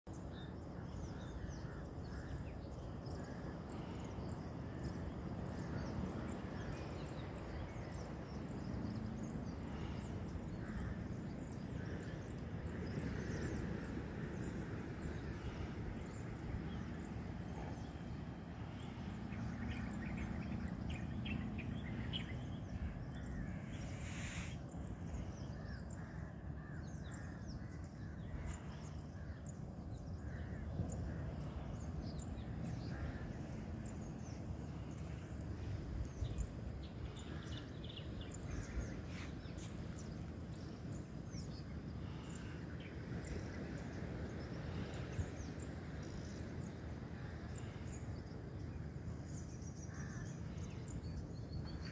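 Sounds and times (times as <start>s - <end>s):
steady low rumble: 2.9s - 47.9s.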